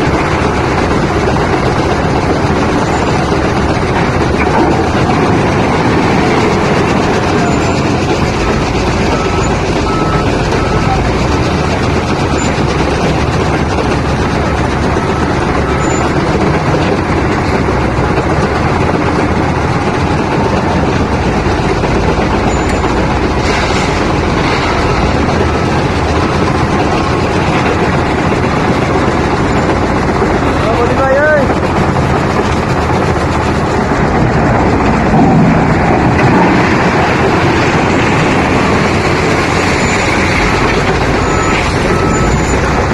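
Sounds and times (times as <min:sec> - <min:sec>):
loud diesel engine running: 0:00.0 - 0:42.9.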